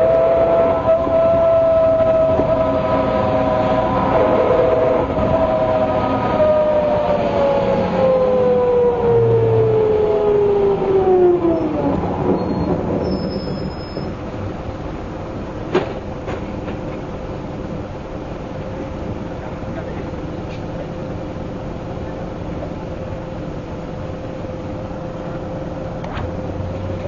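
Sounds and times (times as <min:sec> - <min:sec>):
bus differential whining: 0:00.0 - 0:27.0
diesel engine: 0:00.0 - 0:27.0
road rumble: 0:00.0 - 0:27.0.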